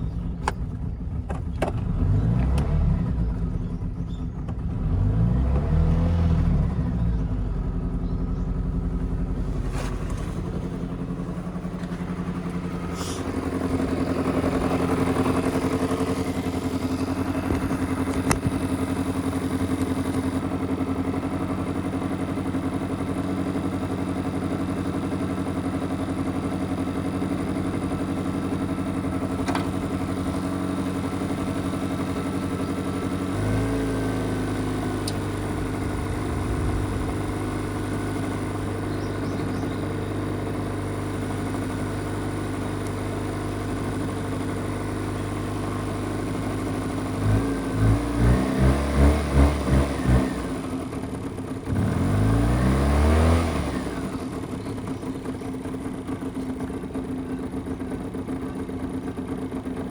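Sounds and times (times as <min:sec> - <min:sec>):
small car engine running: 0:00.0 - 0:59.9.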